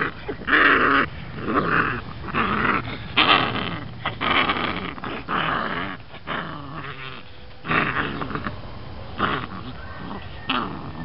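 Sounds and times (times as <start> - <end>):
puppy growling: 0.0 - 8.6, 9.2 - 11.0.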